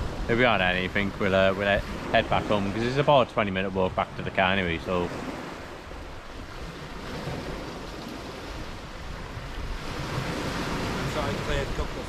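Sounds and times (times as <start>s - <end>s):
small waves washing ashore: 0.0s - 12.0s
wind rumble on microphone: 0.0s - 12.0s.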